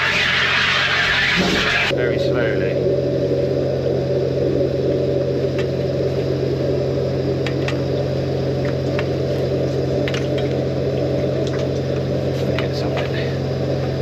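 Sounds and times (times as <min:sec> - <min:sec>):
engine and pressure pump running: 0:00.0 - 0:14.0.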